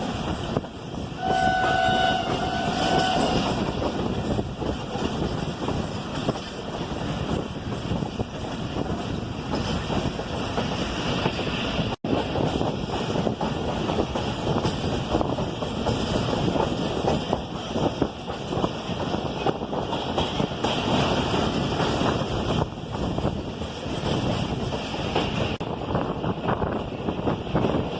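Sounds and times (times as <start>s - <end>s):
train wheels rumbling and clattering: 0.0s - 27.9s
wind on microphone: 0.0s - 27.9s.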